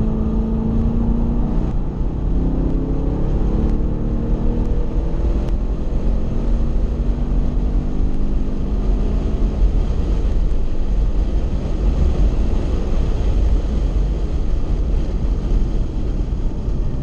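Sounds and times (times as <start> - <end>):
car engine roaring: 0.0 - 17.0
road and wind noise: 0.0 - 17.0.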